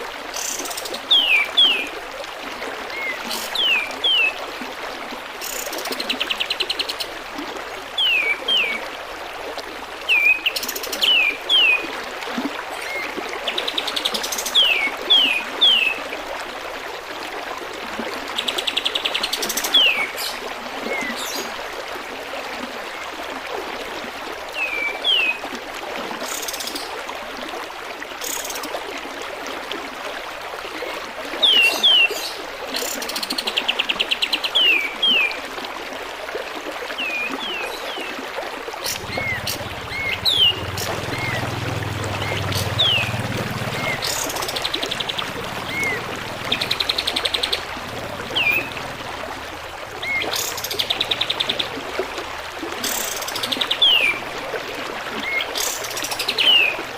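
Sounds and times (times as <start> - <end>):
trickling water: 0.0 - 56.9.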